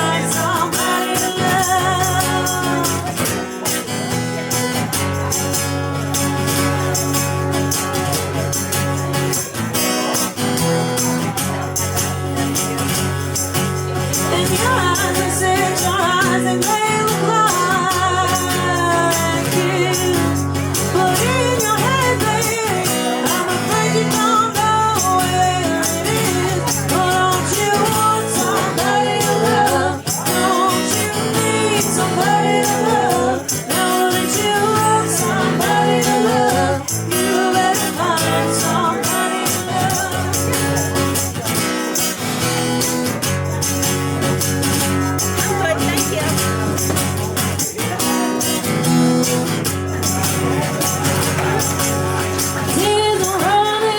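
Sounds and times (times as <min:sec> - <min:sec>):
band playing a song with singing: 0:00.0 - 0:53.9.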